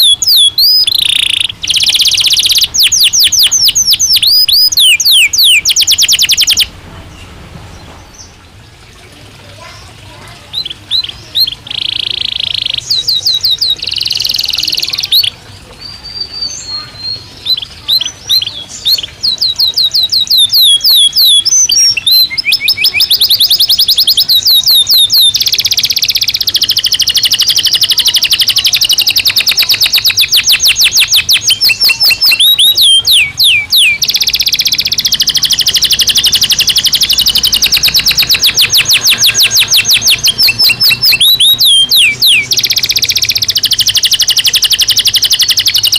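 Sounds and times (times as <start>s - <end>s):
canary singing fast trills: 0.0s - 8.7s, 9.5s - 45.9s.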